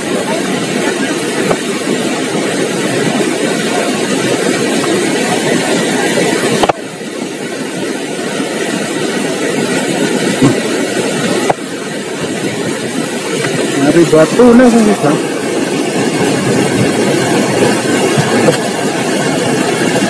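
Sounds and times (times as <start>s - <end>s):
loud steady rushing noise: 0.0s - 20.0s.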